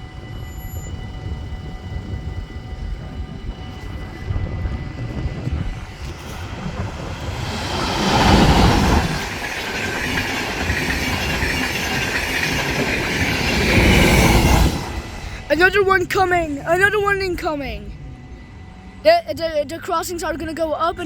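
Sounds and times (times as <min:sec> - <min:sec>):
train passing: 0:00.0 - 0:21.0
train wheel noise: 0:00.0 - 0:21.0.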